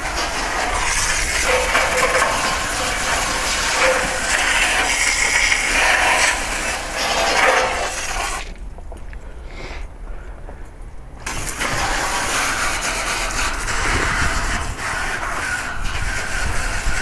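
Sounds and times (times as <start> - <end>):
hose spraying water on metal fins: 0.0 - 8.6, 11.2 - 17.0.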